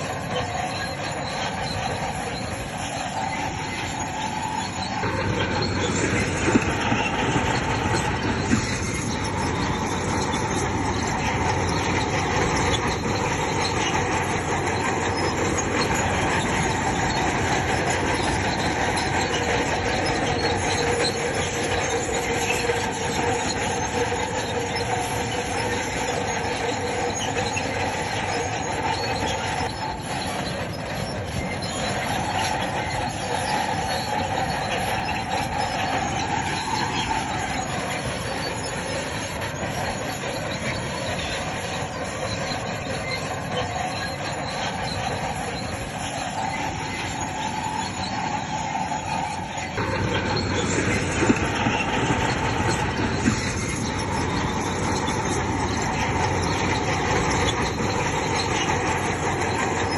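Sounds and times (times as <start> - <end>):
diesel engine running: 0.0 - 59.9
steel tracks squealing and clanking: 0.0 - 59.9.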